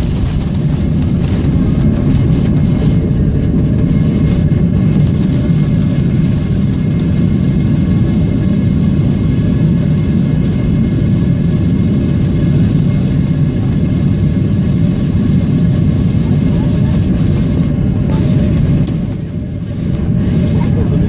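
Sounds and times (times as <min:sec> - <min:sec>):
jet airliner cabin rumble: 0:00.0 - 0:21.0.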